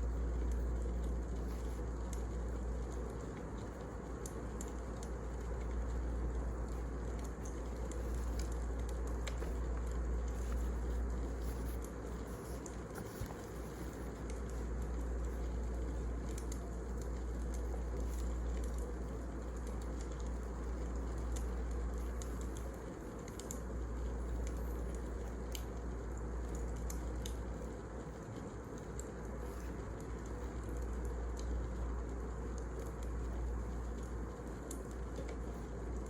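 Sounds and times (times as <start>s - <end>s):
wood fire burning: 0.0s - 36.0s
logs crackling and popping: 0.1s - 36.0s.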